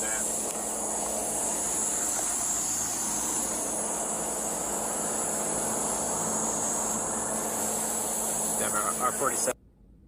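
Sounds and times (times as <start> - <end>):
high-pitched hiss: 0.0 - 9.6.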